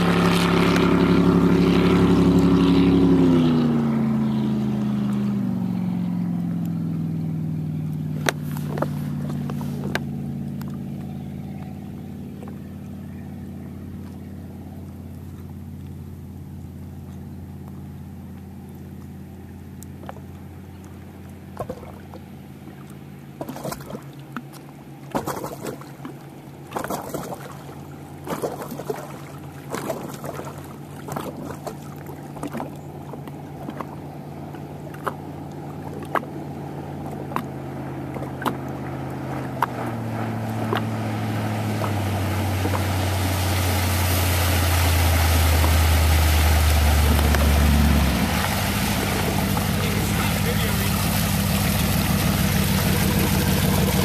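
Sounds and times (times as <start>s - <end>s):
speedboat engine running: 0.0s - 54.0s
water slapping and splashing: 0.0s - 54.0s.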